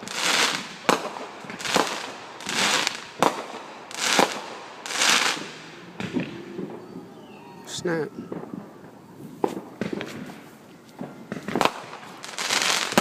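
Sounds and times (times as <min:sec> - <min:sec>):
fireworks crackling hiss: 0:00.0 - 0:06.6, 0:07.7 - 0:13.0
fireworks bangs: 0:00.0 - 0:13.0.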